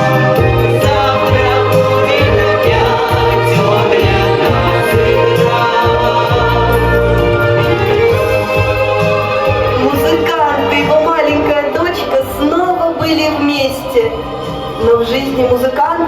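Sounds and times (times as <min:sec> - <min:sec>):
instrumental accompaniment with bass: 0:00.0 - 0:16.0
voices singing: 0:00.0 - 0:16.0.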